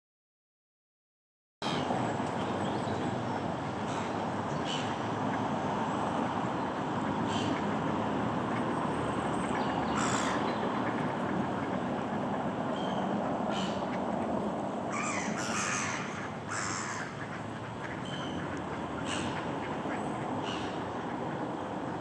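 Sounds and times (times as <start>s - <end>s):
distant road traffic rumble: 1.6s - 22.0s.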